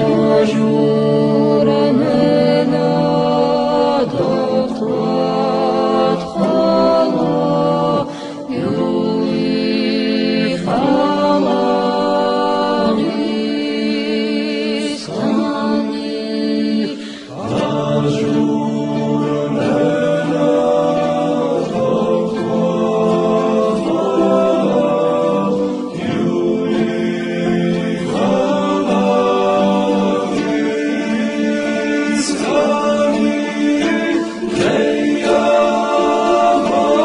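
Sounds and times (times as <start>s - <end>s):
unaccompanied choir singing: 0.0s - 37.0s.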